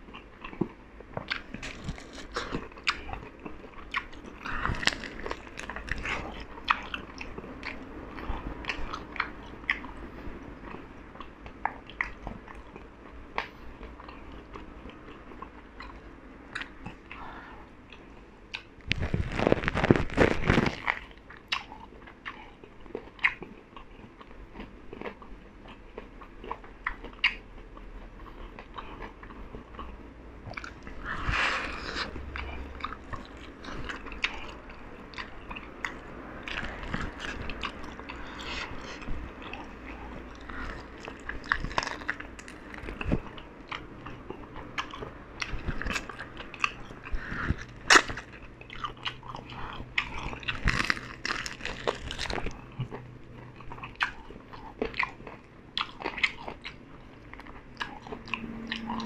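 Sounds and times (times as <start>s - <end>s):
person chewing crunchy chicken: 0.0s - 59.0s.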